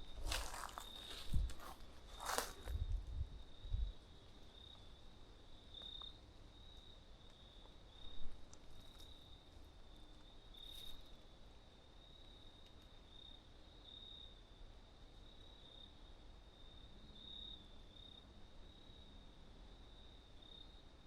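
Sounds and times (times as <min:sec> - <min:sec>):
insects chirping: 0:00.0 - 0:19.2.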